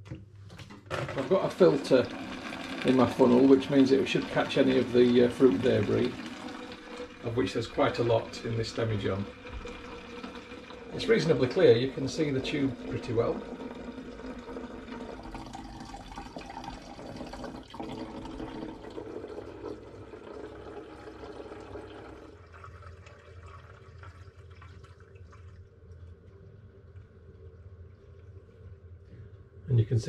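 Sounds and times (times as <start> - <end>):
liquid trickling into funnel: 0.7 - 29.1.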